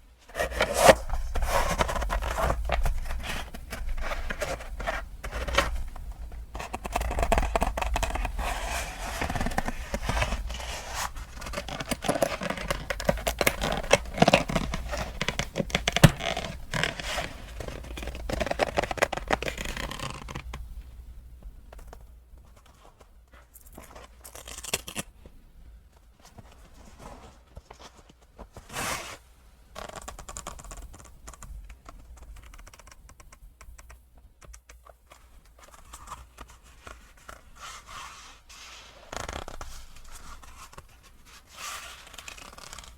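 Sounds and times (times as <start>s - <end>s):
rustling and scraping of packaging: 0.2s - 20.6s, 21.6s - 30.9s, 34.8s - 42.9s.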